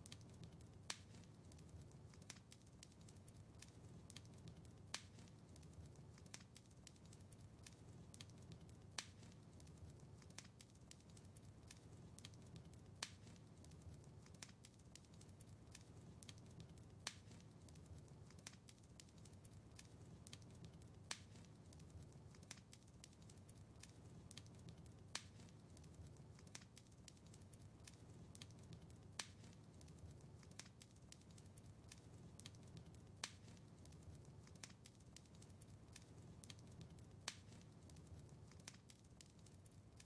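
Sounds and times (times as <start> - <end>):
low rumble of burning: 0.0 - 40.0
wood fire crackling: 0.0 - 40.0.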